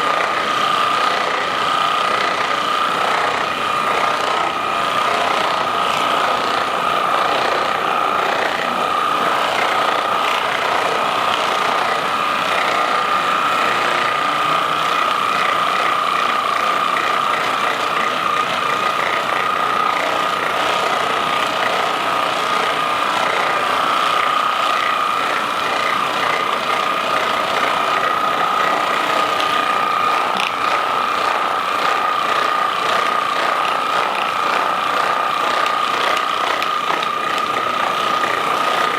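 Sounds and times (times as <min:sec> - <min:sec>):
massage gun buzzing: 0:00.0 - 0:38.9.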